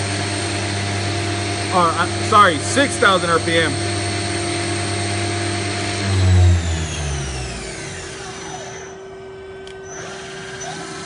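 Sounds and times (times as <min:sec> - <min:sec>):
low machine hum: 0:00.0 - 0:10.6
lathe spindle whining: 0:00.0 - 0:11.0.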